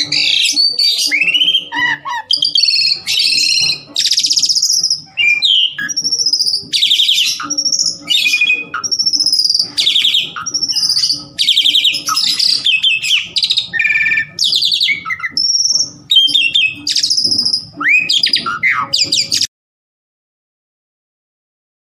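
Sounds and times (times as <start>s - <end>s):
bird whistles: 0.0s - 19.5s
starling chattering song: 0.0s - 19.5s.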